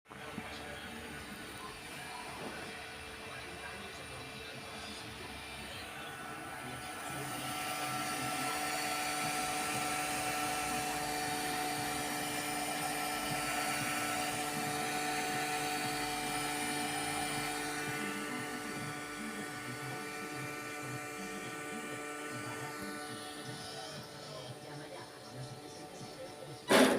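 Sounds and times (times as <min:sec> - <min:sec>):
model boat motor whining: 0:00.2 - 0:26.9.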